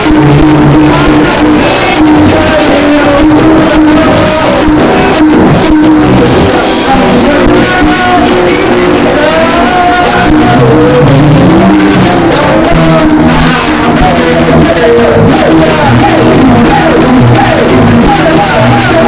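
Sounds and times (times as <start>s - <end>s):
loud music with singing: 0.0s - 19.0s.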